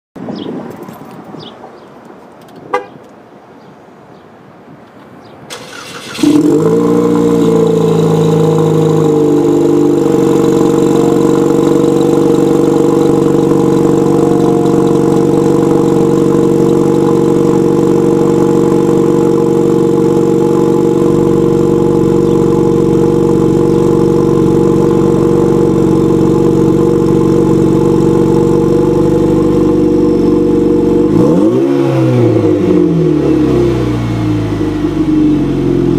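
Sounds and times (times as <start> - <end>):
car engine starting and idling: 5.5 - 35.9.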